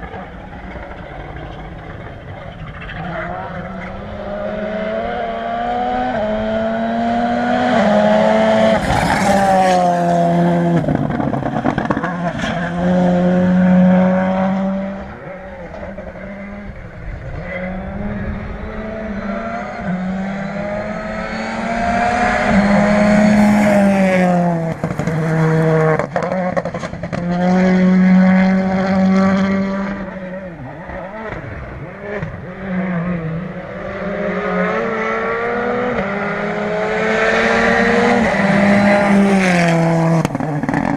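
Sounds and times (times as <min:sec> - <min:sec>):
rally car engine revving: 0:00.0 - 0:40.9.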